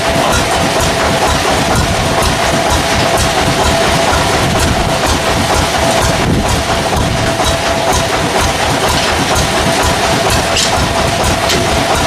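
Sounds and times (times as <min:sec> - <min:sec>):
sawmill machinery humming: 0:00.0 - 0:12.0
clicks and knocks: 0:00.1 - 0:12.0.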